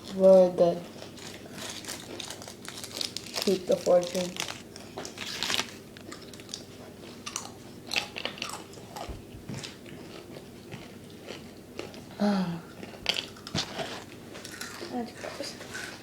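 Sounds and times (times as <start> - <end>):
crunching and chewing cookies: 0.0 - 16.0.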